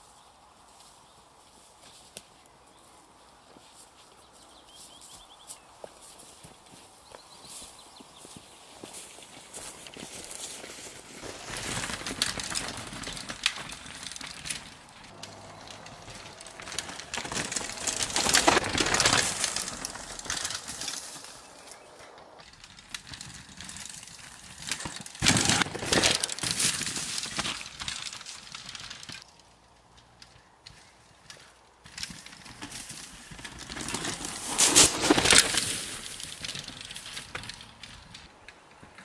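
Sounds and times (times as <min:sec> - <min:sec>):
vegetation rustling: 0:00.0 - 0:29.3, 0:31.4 - 0:38.3
bike tyres crunching through grass: 0:00.0 - 0:39.0.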